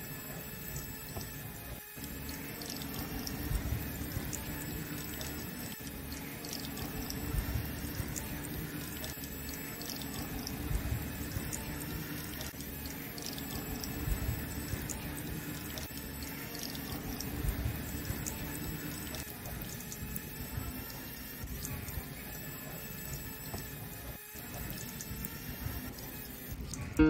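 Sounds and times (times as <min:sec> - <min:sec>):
pump motor hum: 0:00.0 - 0:27.0.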